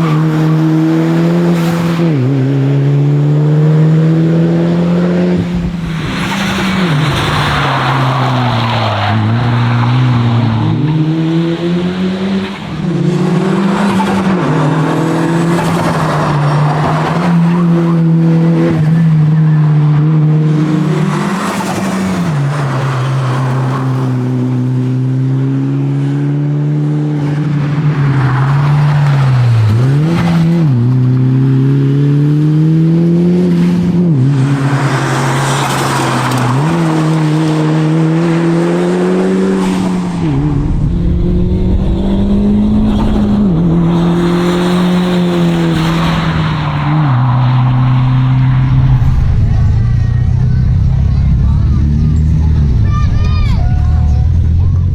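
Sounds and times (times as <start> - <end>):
car engine revving through gears: 0.0 - 52.6.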